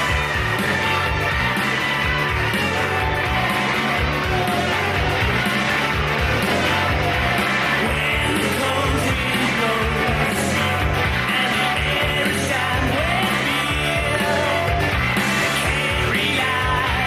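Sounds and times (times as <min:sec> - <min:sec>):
rock song with band and singing: 0:00.0 - 0:17.0.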